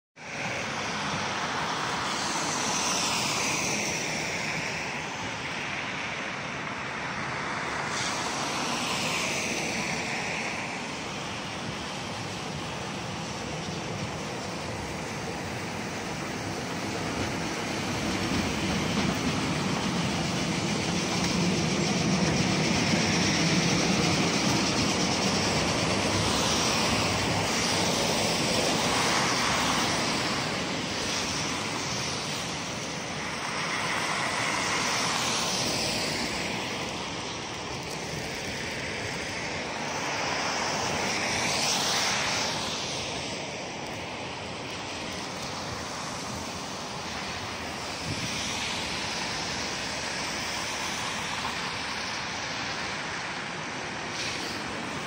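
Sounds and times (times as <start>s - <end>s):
traffic hiss on wet road: 0.2s - 55.0s
tram rumbling along tracks: 0.2s - 55.0s
vehicles swishing past: 0.2s - 55.0s.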